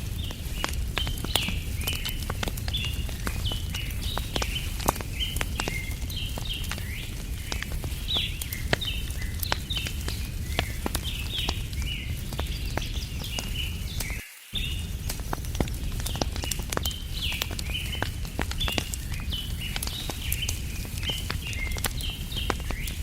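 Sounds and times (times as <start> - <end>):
birds chirping: 0.0 - 23.0
campfire crackling and popping: 0.0 - 23.0.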